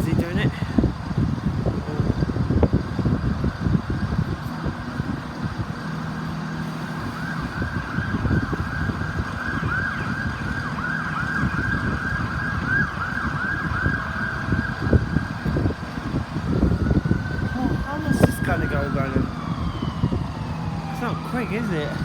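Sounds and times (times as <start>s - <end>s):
diesel train engine rumble: 0.0s - 22.0s.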